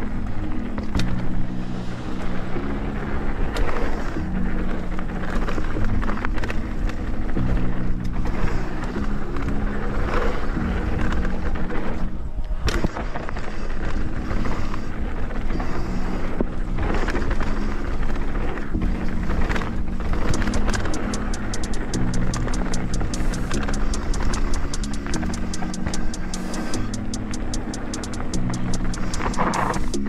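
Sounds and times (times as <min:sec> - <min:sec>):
background music low notes: 0:00.0 - 0:30.0
bike tyre and chassis rattle: 0:00.0 - 0:30.0.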